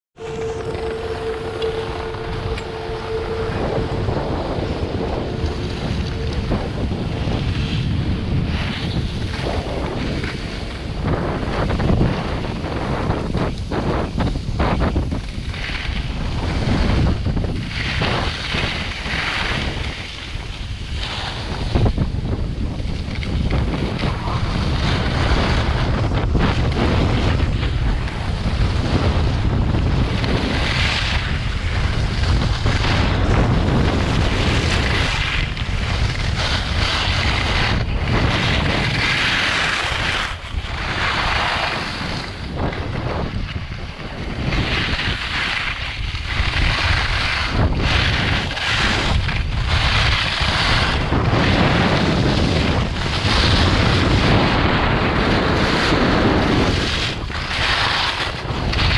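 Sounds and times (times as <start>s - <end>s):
wind rumbling on microphone: 0.1s - 58.9s
skis scraping over snow: 0.2s - 58.9s.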